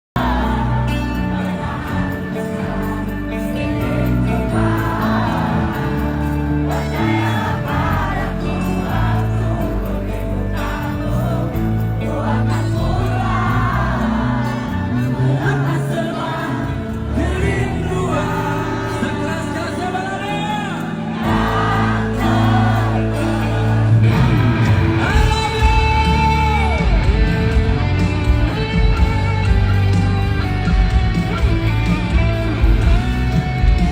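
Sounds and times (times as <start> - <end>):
crowd: 0.0 - 33.9
lead vocal singing: 0.1 - 33.9
live band music: 0.2 - 33.9.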